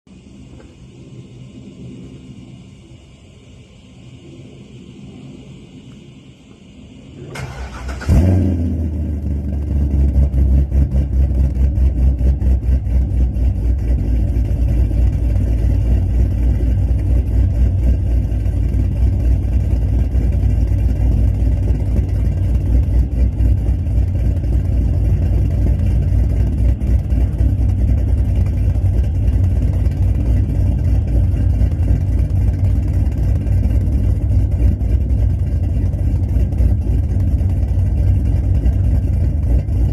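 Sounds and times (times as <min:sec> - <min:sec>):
choppy engine idle: 0:07.1 - 0:39.9
car engine cranking: 0:07.2 - 0:39.9.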